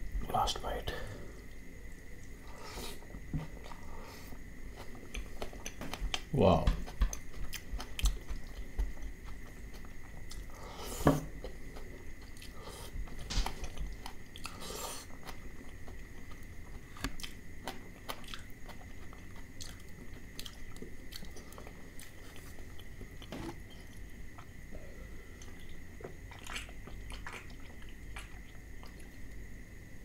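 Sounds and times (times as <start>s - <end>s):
close chewing with mouth clicks: 3.6s - 10.6s, 11.4s - 24.5s, 25.4s - 29.4s.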